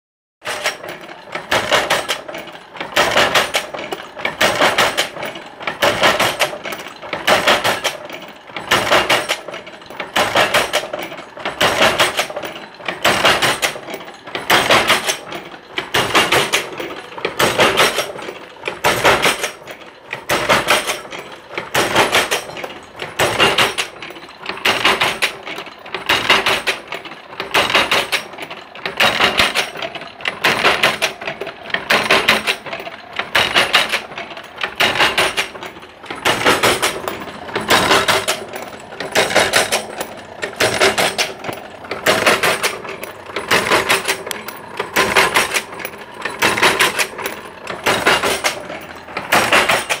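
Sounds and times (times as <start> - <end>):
machine knocking and clattering: 0.4 - 50.0.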